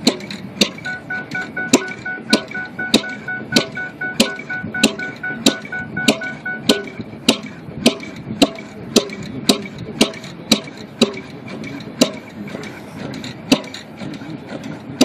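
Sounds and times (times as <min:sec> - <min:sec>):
single-cylinder engine exhaust pops: 0:00.0 - 0:14.8.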